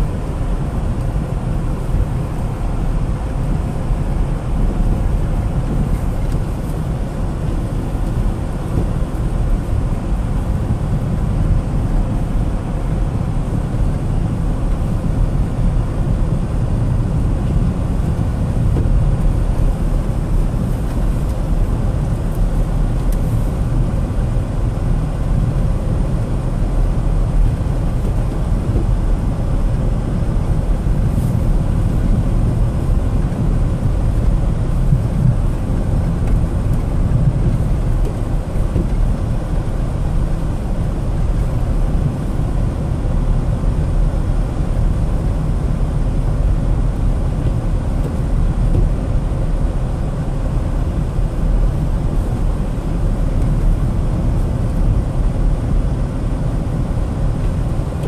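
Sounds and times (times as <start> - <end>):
car interior rumble on snow: 0.0 - 58.0.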